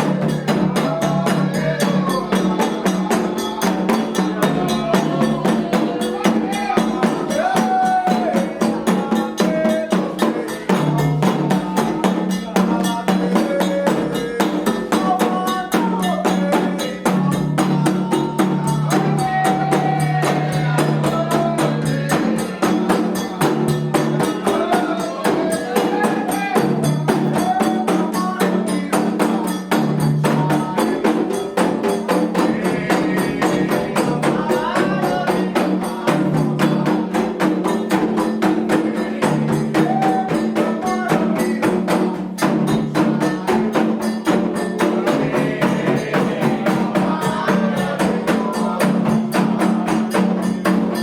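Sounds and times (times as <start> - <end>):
drums and percussion rhythm: 0.0 - 51.0
people singing: 0.0 - 51.0.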